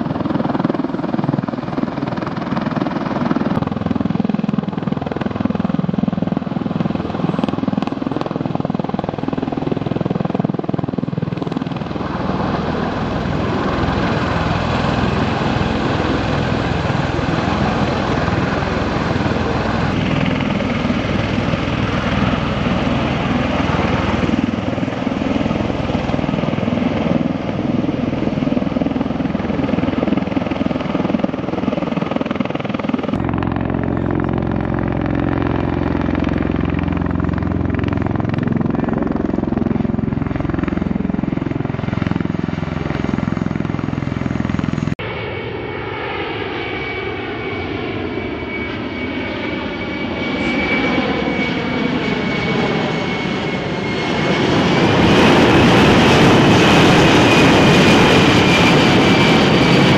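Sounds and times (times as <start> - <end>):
tiltrotor aircraft rotor beat: 0.0 - 59.9
turboshaft engine noise: 0.0 - 59.9.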